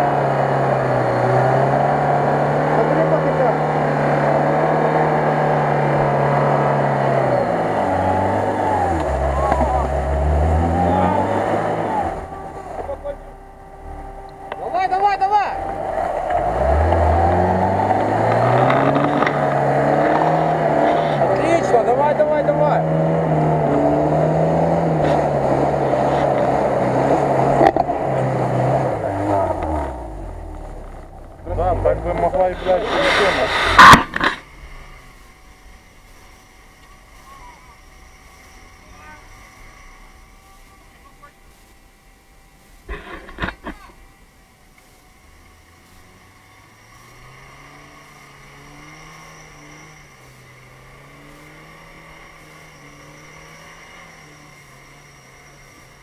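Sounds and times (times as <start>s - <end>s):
car engine straining: 0.0s - 56.0s.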